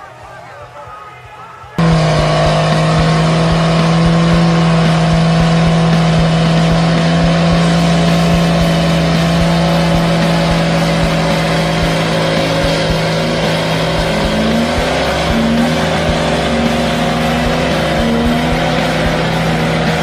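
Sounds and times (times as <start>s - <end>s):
diesel truck engines revving: 1.7s - 20.0s
tyres spinning: 1.8s - 20.0s.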